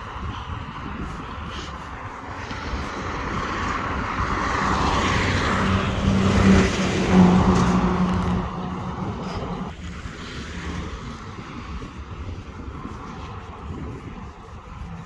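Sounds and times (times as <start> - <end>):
vehicle tyre noise passing: 0.0 - 15.0
engine hum: 0.4 - 15.0.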